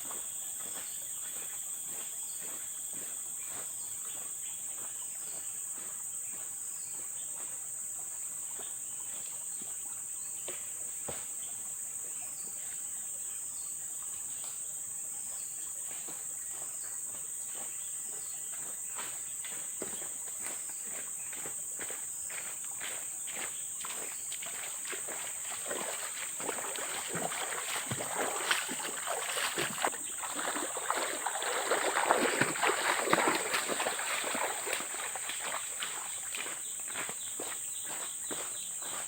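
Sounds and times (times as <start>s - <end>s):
forest insects droning: 0.0s - 39.0s.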